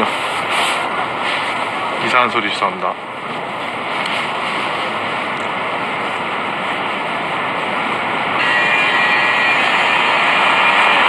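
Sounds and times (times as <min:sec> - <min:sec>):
rushing street noise: 0:00.0 - 0:11.0
faint high whine: 0:01.1 - 0:11.0.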